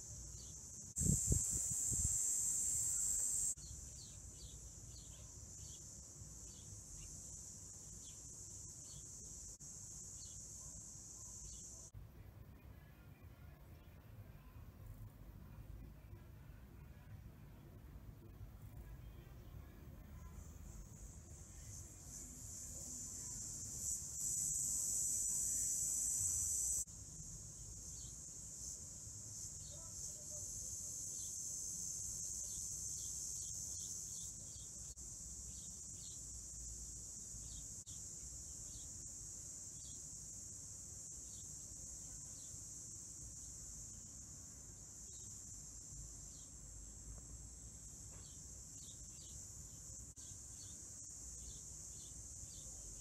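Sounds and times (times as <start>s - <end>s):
high-pitched insect chorus: 0.1s - 11.9s, 20.3s - 53.0s.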